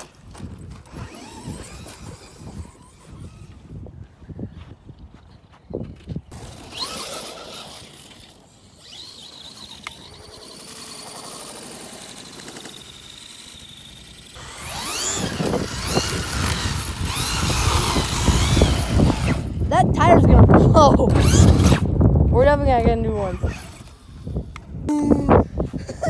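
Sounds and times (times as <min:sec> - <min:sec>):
rc truck motors whining: 0:00.0 - 0:03.9, 0:06.2 - 0:25.4.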